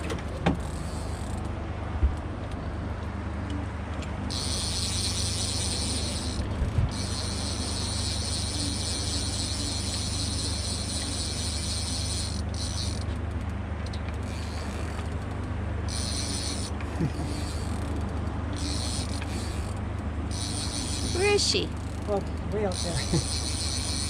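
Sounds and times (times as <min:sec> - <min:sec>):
low hum: 0:00.0 - 0:24.0
fishing reel clicker ratcheting: 0:00.6 - 0:01.5, 0:04.3 - 0:24.0.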